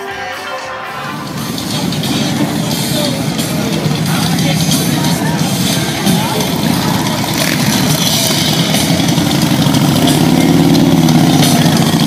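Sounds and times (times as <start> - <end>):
motorcycle engines idling: 0.8 - 12.0
motorcycle engine revving away: 1.1 - 12.0.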